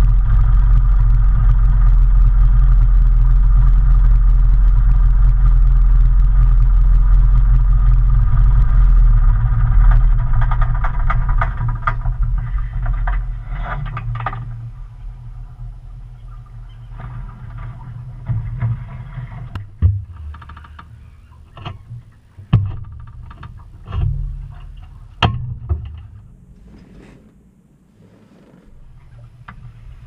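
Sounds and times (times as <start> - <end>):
plane engine idling and shutting down: 0.0 - 30.0.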